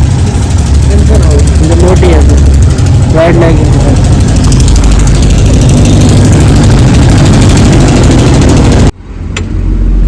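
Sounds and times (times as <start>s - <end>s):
loud engine pulsing: 0.0s - 10.0s
low rumble: 0.0s - 10.0s.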